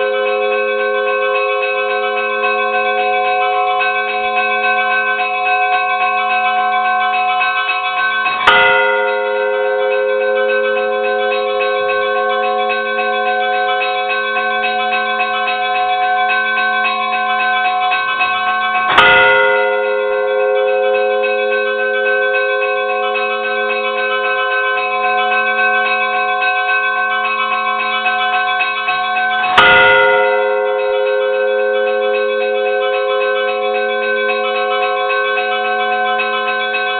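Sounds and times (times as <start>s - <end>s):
church bells ringing: 0.0s - 36.9s
heavy bell strikes: 0.0s - 36.9s.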